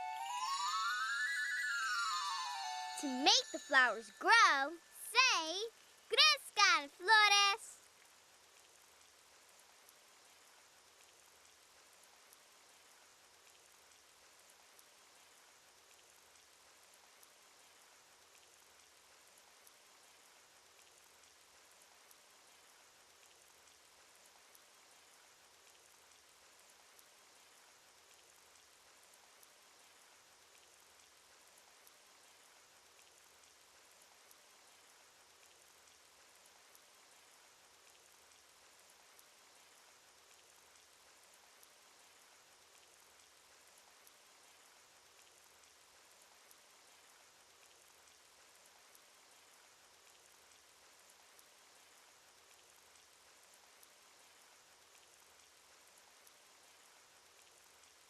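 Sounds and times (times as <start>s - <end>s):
cartoon rain patter: 0.0s - 58.0s.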